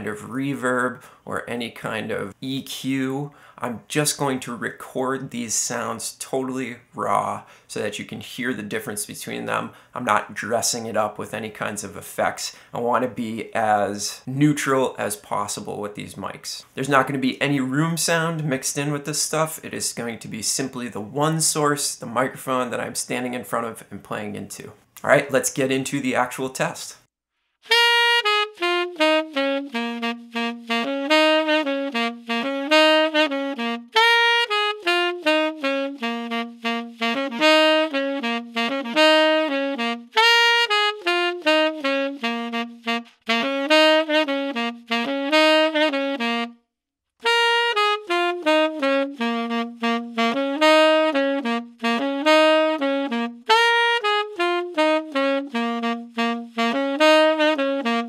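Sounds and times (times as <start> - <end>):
tenor saxophone jazz phrase: 0.0 - 27.0, 27.7 - 46.6, 47.2 - 58.0.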